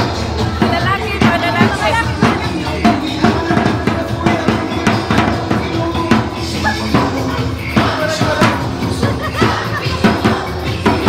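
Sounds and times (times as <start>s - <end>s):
drum-heavy dance music: 0.0s - 11.0s.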